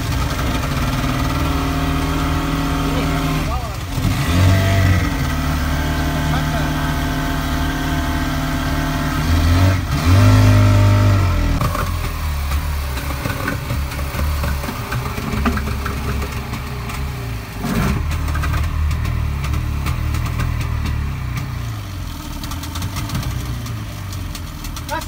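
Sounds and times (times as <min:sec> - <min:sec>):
outboard motors idling: 0:00.0 - 0:25.0.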